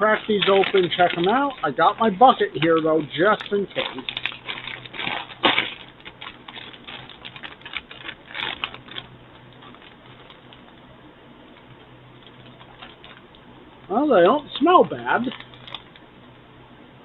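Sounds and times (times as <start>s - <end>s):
chip bag crinkling open: 0.0s - 13.4s, 14.2s - 16.1s.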